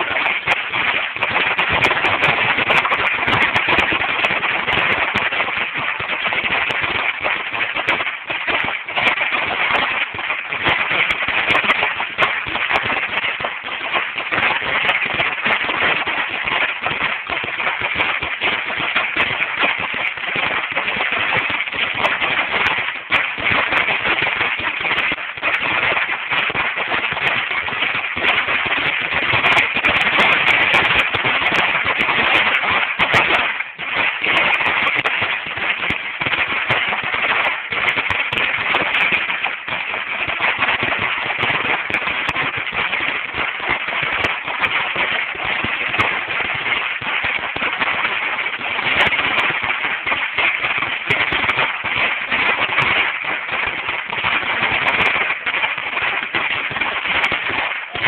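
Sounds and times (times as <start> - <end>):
firecracker strip bangs: 0.0 - 58.0.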